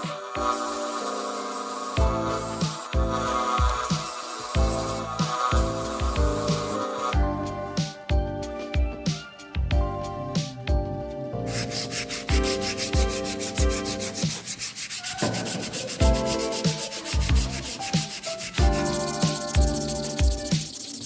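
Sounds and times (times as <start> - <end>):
wood being sanded: 0.0 - 8.0, 11.5 - 21.0
background music with steady beat: 0.0 - 21.0.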